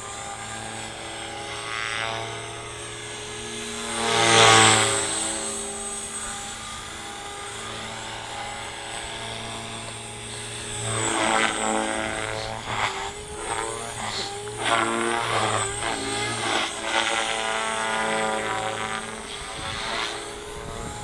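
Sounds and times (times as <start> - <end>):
rc helicopter rotor whine: 0.0 - 21.0.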